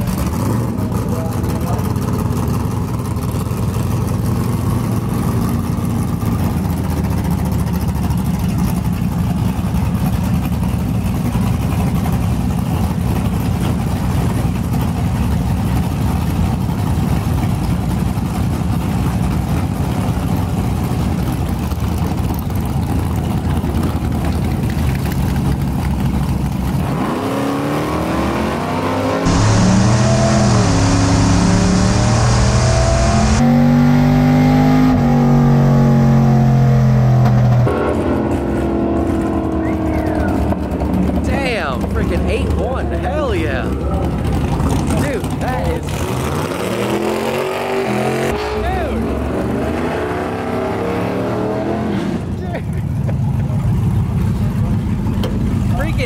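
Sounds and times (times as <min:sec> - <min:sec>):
truck engine running and revving: 0:00.0 - 0:56.0.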